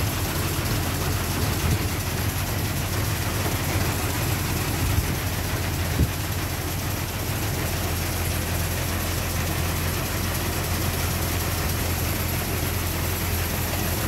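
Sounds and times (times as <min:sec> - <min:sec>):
blower fan hiss: 0:00.0 - 0:14.0
tractor engine hum: 0:00.0 - 0:14.0.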